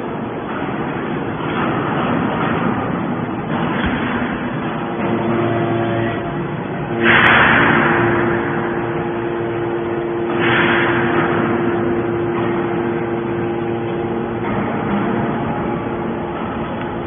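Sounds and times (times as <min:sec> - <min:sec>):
pump motor hum: 0:00.0 - 0:17.0.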